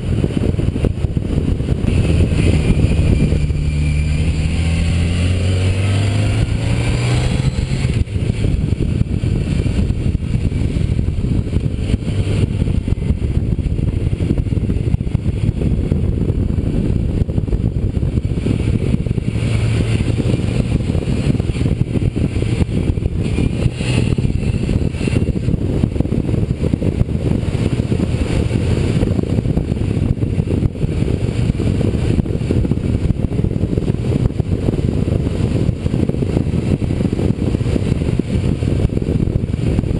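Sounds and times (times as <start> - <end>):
motorcycle engine drone: 0.0 - 39.9
wind rumble on microphone: 0.0 - 39.9.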